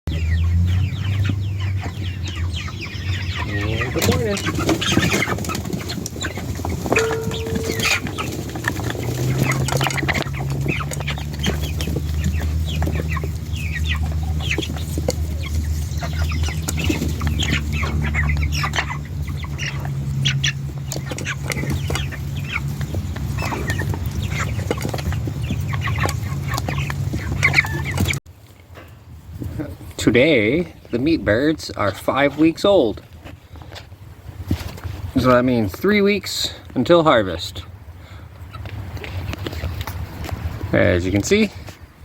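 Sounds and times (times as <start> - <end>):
chickens cheeping and clucking: 0.1 - 42.0.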